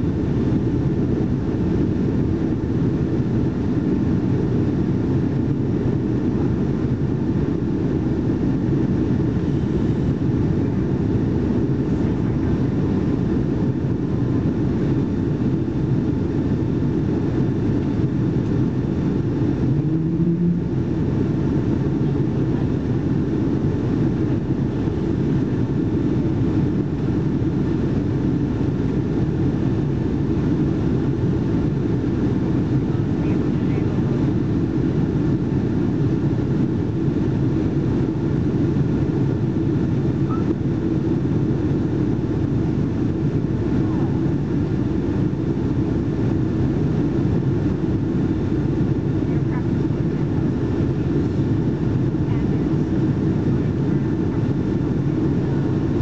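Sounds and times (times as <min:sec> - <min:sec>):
aircraft cabin engine noise: 0:00.0 - 0:56.0.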